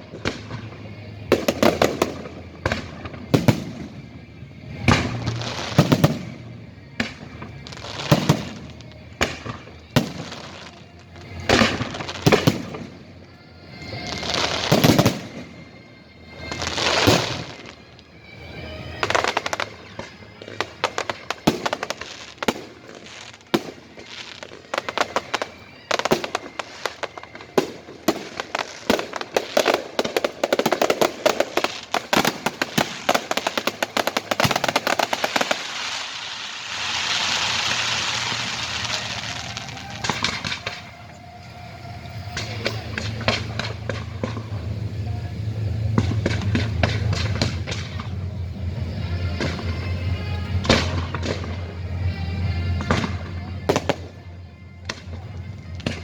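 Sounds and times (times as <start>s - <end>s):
fireworks crackling and banging: 0.0s - 56.0s
fireworks hissing: 0.0s - 56.0s.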